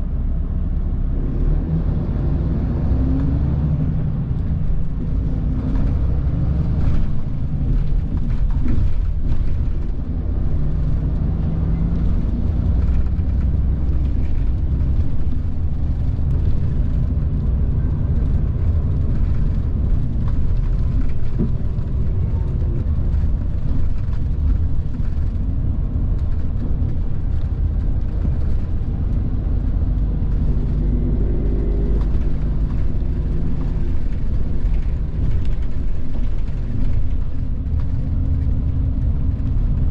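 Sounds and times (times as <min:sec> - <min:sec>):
diesel engine rumble in cabin: 0:00.0 - 0:39.9.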